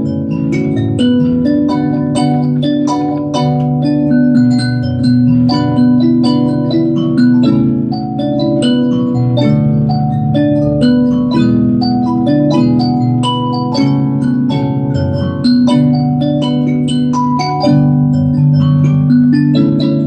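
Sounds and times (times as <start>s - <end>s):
mbira plucked metal tines: 0.0s - 20.0s.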